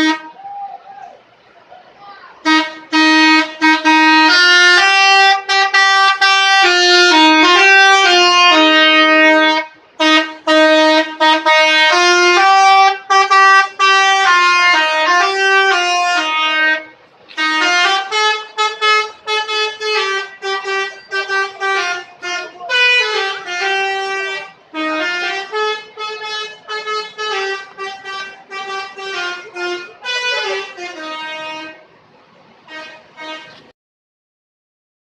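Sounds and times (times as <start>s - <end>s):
multi-tone bus horn melody: 0.0s - 0.4s, 2.4s - 32.0s, 32.6s - 33.7s.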